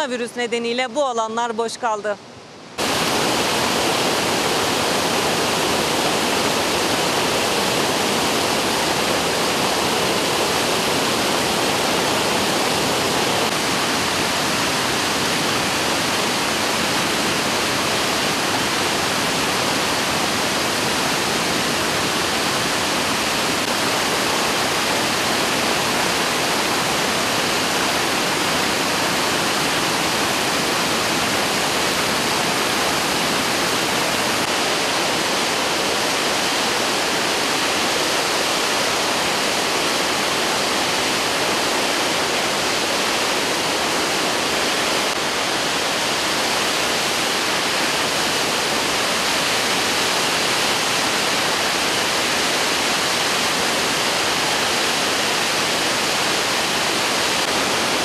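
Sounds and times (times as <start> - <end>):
waterfall rushing: 0.0 - 58.0
river rushing over rocks: 1.6 - 58.0.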